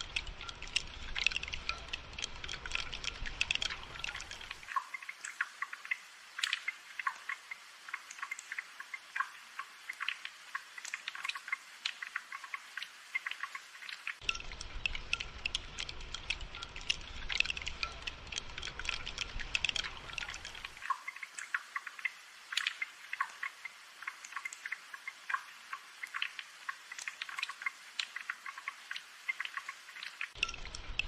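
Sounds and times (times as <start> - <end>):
rain dripping and pattering: 0.0 - 31.0.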